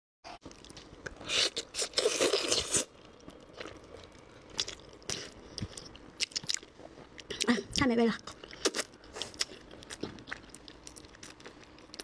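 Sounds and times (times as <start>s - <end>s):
wet chewing and crunching: 0.4s - 12.0s.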